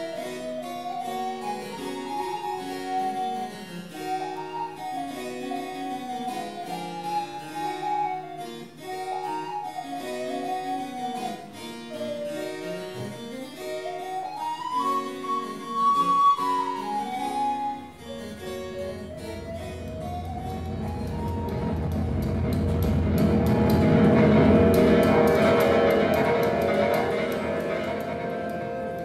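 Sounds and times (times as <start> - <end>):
viols and recorders playing: 0.0 - 27.6.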